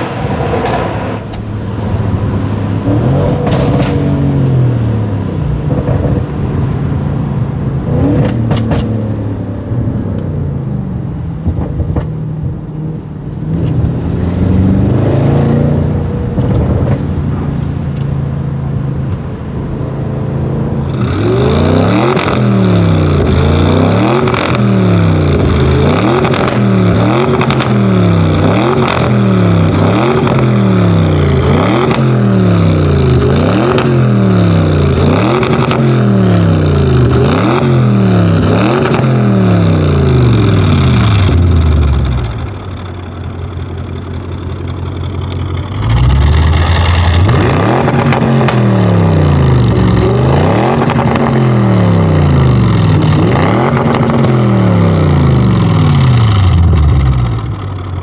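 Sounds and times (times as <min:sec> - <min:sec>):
car engine revving: 0:00.0 - 0:58.0
exhaust crackles: 0:00.0 - 0:58.0.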